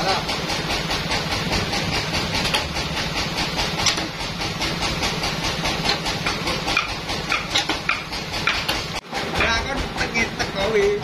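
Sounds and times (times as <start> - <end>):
band sawmill running: 0.0 - 11.0.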